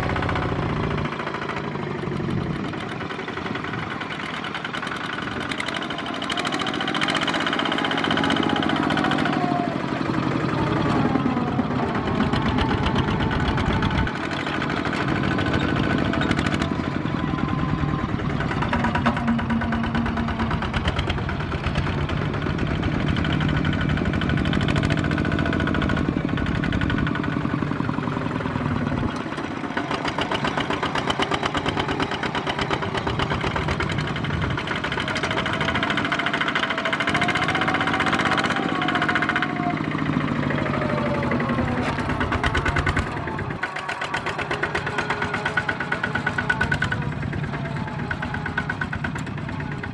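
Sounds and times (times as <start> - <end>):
diesel tractor engines chugging: 0.0 - 49.9.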